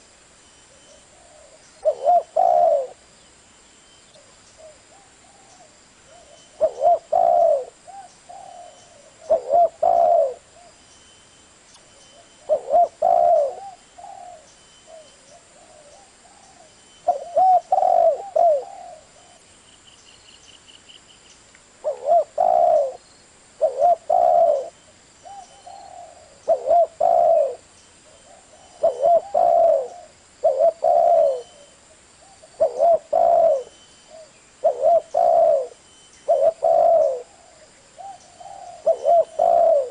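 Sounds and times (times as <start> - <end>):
faint high whine: 0.0 - 39.9
dove cooing: 0.9 - 3.0, 4.6 - 10.8, 12.2 - 19.4, 21.8 - 23.0, 23.6 - 39.9.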